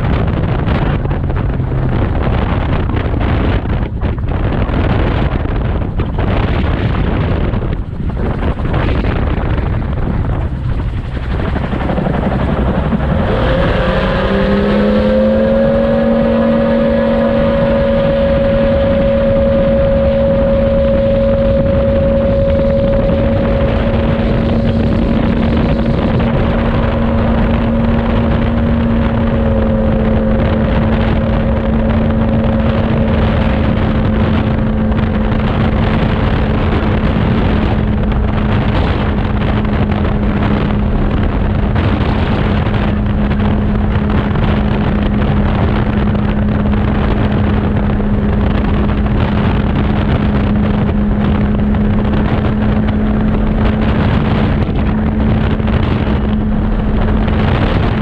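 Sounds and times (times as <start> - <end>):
rush of air: 0.0 - 58.0.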